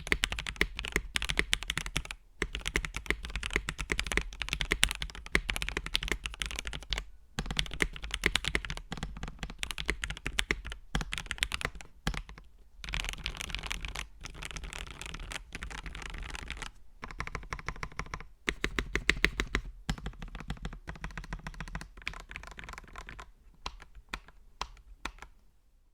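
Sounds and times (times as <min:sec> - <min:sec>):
mechanical keyboard typing: 0:00.0 - 0:25.4.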